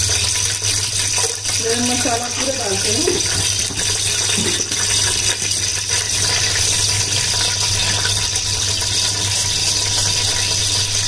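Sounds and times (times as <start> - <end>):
oil sizzling in a pot: 0.0 - 11.0.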